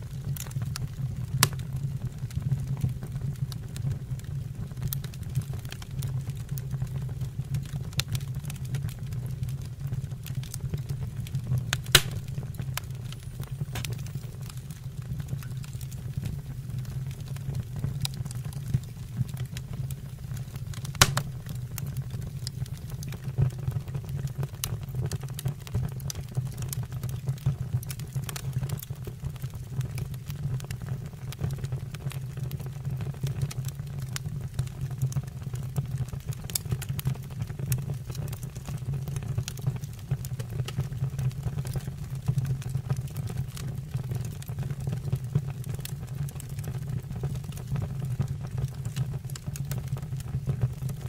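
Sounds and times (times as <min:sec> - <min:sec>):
fire crackling and popping: 0:00.0 - 0:51.0
low fire rumble: 0:00.0 - 0:51.0.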